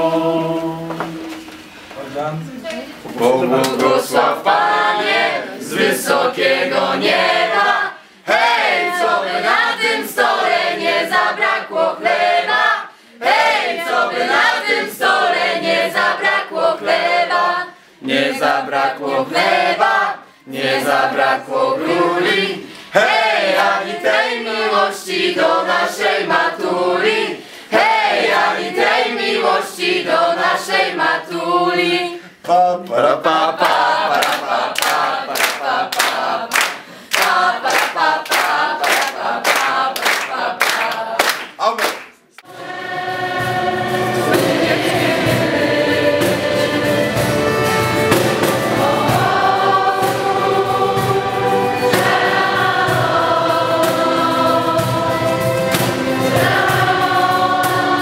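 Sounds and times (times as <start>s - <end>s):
group singing unaccompanied: 0.0s - 1.8s, 3.0s - 41.5s, 42.4s - 58.0s.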